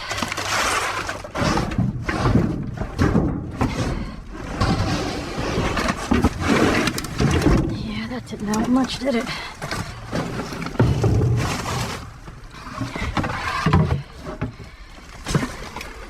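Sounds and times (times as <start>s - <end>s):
debris scraping in metal dumpster: 0.0s - 13.9s.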